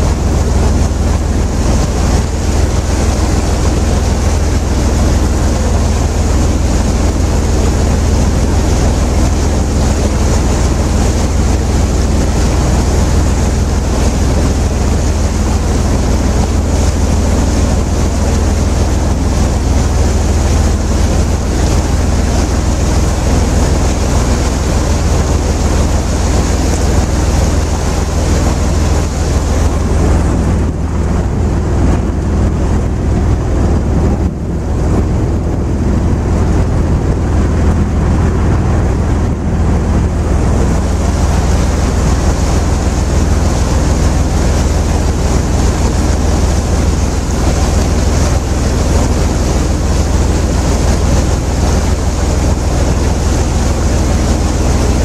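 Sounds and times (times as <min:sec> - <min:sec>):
boat engine running: 0:00.0 - 0:55.0
water rushing past: 0:00.0 - 0:55.0
wind buffeting microphone: 0:00.0 - 0:55.0.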